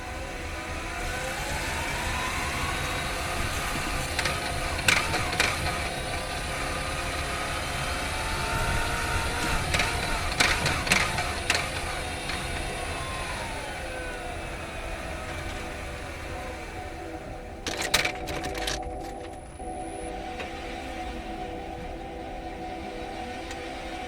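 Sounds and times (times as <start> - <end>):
car motor whine: 0.0 - 24.0.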